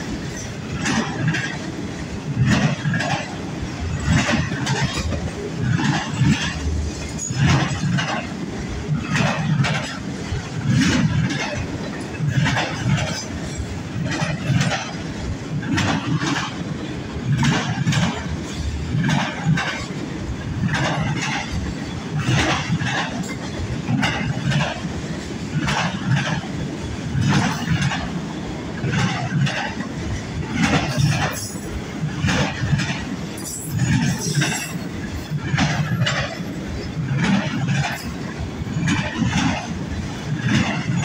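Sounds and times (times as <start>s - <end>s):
train low rumble: 0.0s - 41.0s
train wheels clacking over joints: 0.0s - 41.0s.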